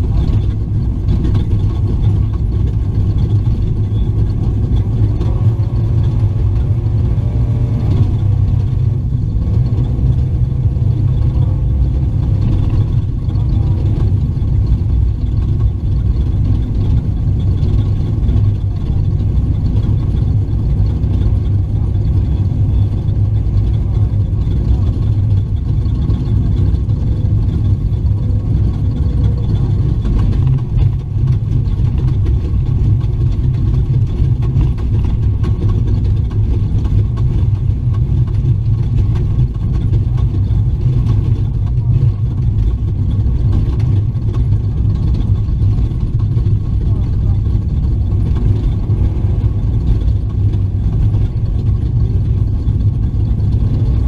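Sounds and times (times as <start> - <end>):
truck engine rumble from inside cab: 0.0 - 54.0.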